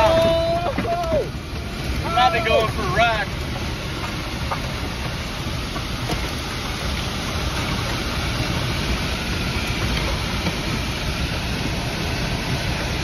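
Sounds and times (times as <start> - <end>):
heavy rain pounding on vehicle roof: 0.0 - 13.0
wind buffeting vehicle: 0.0 - 13.0.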